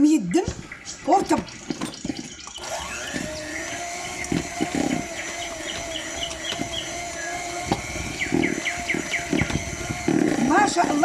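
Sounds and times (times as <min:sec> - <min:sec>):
birds chirping: 0:00.0 - 0:11.0
electric hand mixer running: 0:01.0 - 0:11.0.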